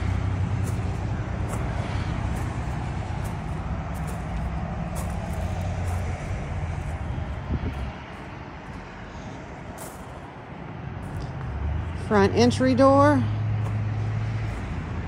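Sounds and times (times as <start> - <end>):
heavy low rumble: 0.0 - 15.0
rush of passing vehicles: 0.0 - 15.0.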